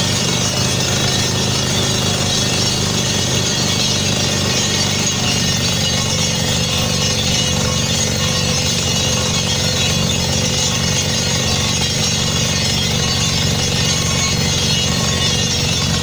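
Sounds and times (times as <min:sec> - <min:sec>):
drill hammering pulse: 0:00.0 - 0:16.0
drilling rig engine and compressor: 0:00.0 - 0:16.0.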